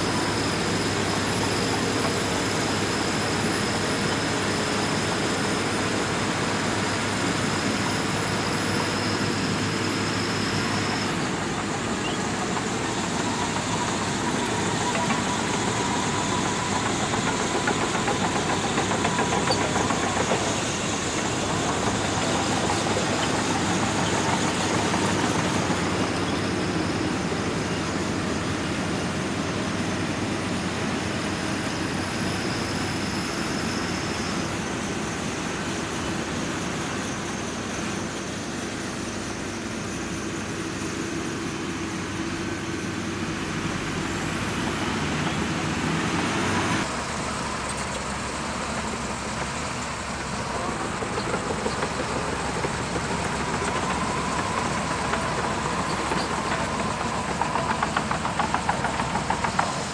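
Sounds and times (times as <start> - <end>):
bulldozer diesel engine rumbling: 0.0 - 59.9.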